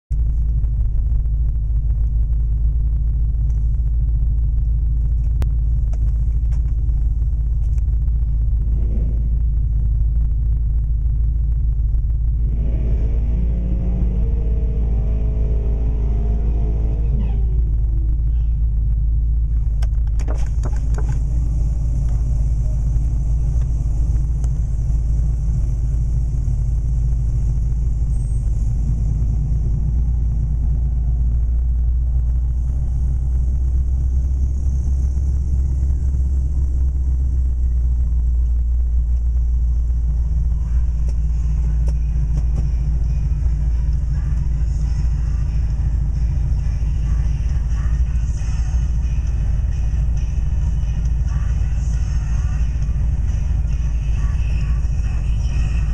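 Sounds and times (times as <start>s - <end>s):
vehicle engines idling: 0.1s - 55.9s.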